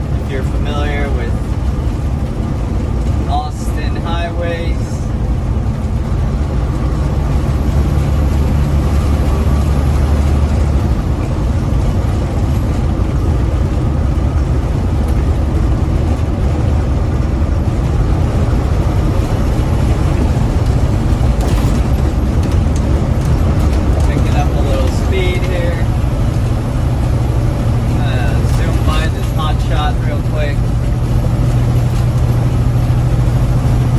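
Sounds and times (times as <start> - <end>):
diesel engine and road rumble: 0.0 - 33.9.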